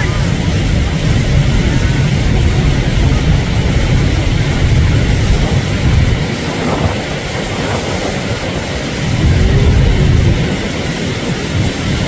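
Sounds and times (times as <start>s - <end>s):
turbulent river water roaring: 0.0s - 12.0s
wind buffeting the microphone: 0.0s - 12.0s.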